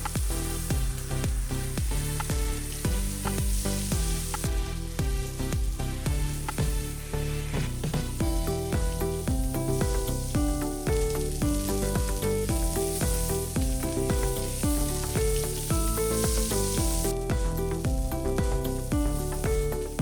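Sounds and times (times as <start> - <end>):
music with beat and bass: 0.0 - 20.0
omelette sizzling in a pan: 0.0 - 20.0.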